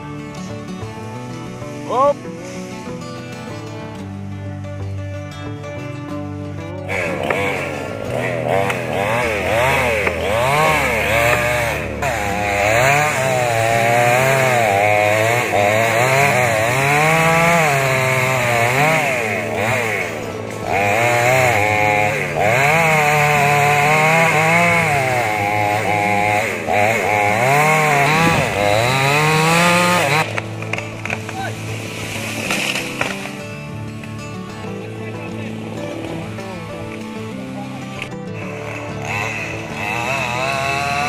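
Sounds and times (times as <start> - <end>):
chainsaw cutting tree trunk: 0.0 - 4.1, 6.8 - 41.0.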